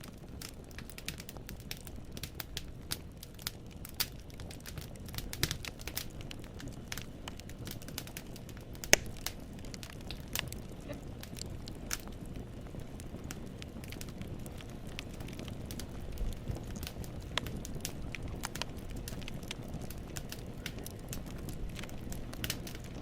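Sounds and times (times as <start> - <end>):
firewood crackling and popping: 0.0 - 23.0
low rumble of flames: 0.0 - 23.0.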